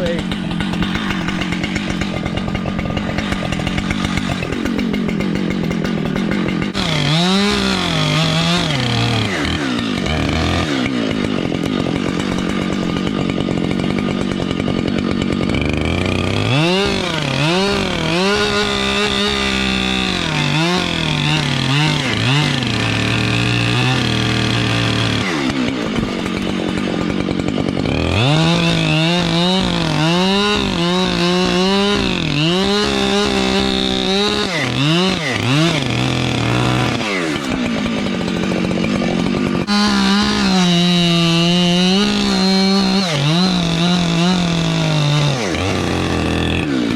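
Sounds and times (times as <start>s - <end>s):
chainsaw revving through wood: 0.0s - 46.9s.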